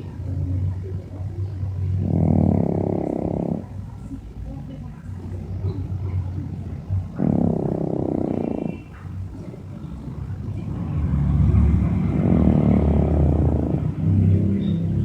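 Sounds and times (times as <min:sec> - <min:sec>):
dog snoring: 0:00.0 - 0:04.3, 0:05.2 - 0:15.0.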